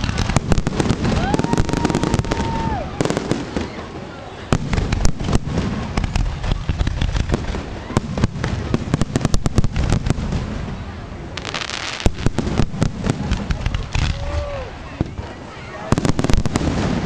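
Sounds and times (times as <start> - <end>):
fireworks bursts and bangs: 0.0 - 17.0
fireworks hissing crackle: 0.0 - 17.0.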